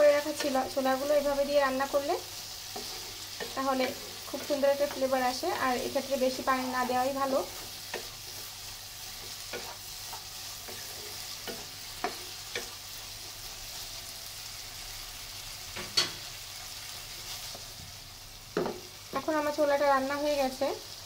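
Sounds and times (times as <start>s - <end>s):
chickpeas sizzling in a wok: 0.0s - 21.0s.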